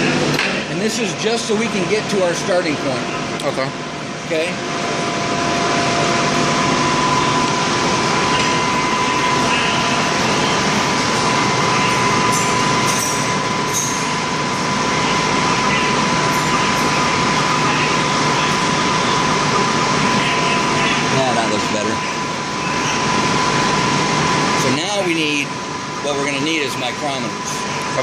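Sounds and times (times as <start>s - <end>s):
lathe turning with high tone: 4.2s - 28.0s.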